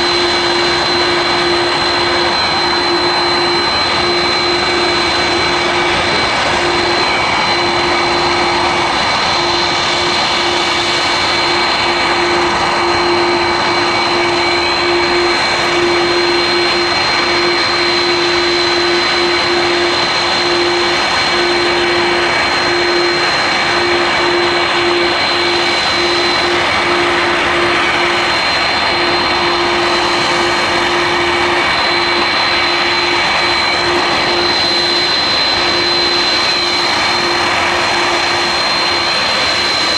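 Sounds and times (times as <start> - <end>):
jet engines with high whine: 0.0 - 39.9.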